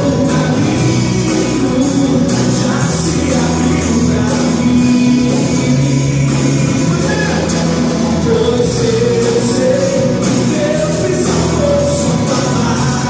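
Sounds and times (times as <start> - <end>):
band playing worship song: 0.0 - 13.0
person singing: 0.0 - 13.0
steady percussion beat: 0.0 - 13.0.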